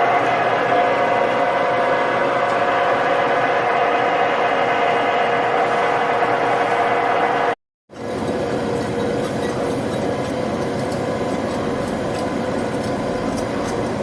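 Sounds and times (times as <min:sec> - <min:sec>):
lathe running hum: 0:00.0 - 0:14.0.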